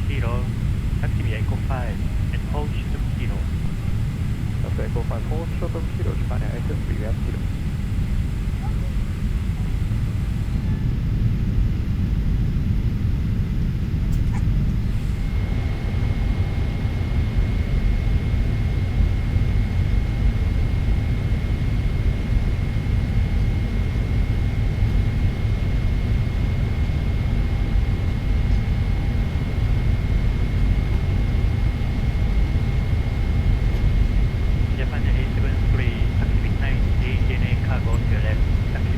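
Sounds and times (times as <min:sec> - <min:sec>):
jet engines in cabin: 0:00.0 - 0:38.9.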